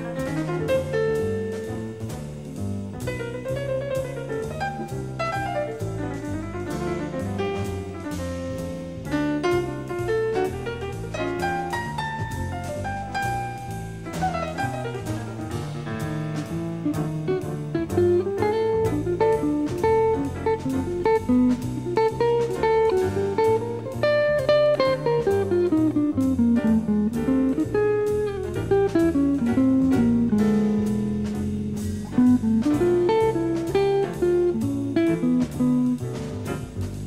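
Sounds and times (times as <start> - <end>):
bass line: 0.0 - 37.0
plucked guitar melody: 0.0 - 37.0.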